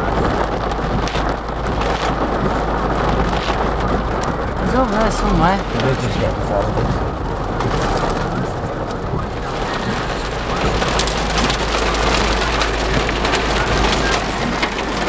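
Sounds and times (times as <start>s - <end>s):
heavy rain on car roof: 0.0s - 15.0s
low rumble: 0.0s - 15.0s.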